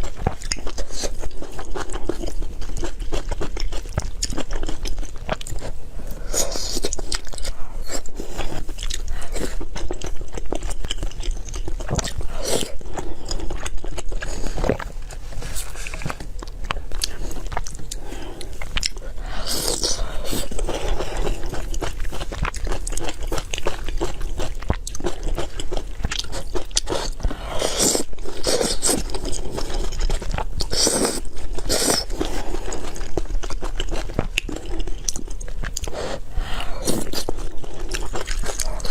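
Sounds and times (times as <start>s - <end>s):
chewing and biting food: 0.0s - 38.9s.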